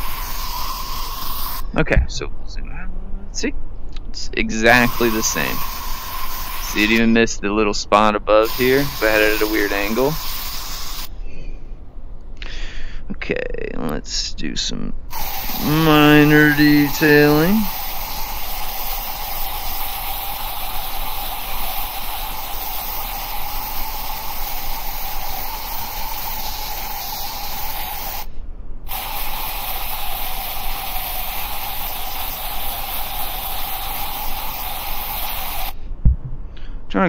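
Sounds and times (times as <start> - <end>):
background hiss: 0.0 - 37.0
faint hum: 0.0 - 37.0.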